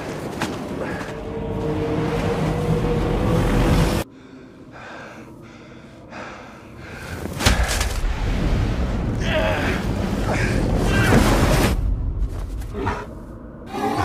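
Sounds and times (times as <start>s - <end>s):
blizzard wind: 0.0s - 14.0s.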